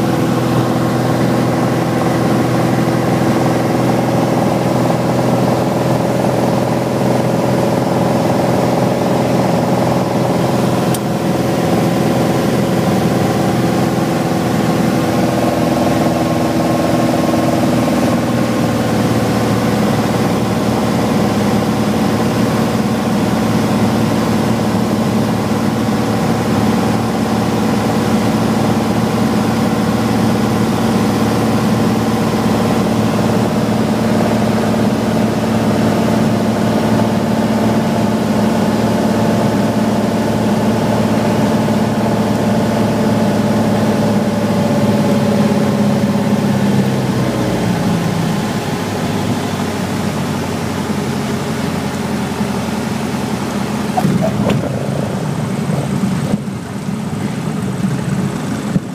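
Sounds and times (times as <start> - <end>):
propeller plane engine: 0.0 - 58.9.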